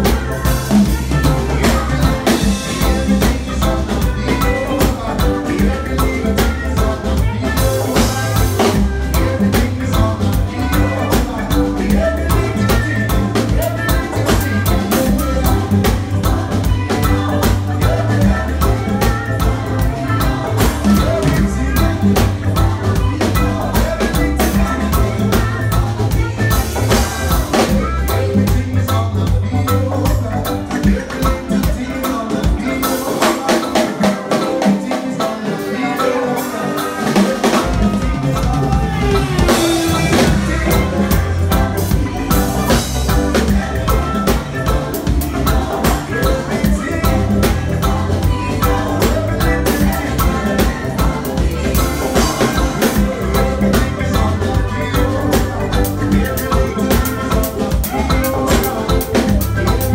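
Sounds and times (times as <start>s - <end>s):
bass line: 0.0s - 59.9s
drum kit reggae groove: 0.0s - 59.9s.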